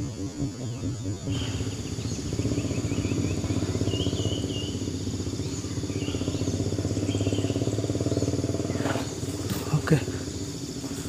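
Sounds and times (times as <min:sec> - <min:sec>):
bird chirps: 0:00.0 - 0:11.0
pulsing motor hum: 0:00.0 - 0:11.0.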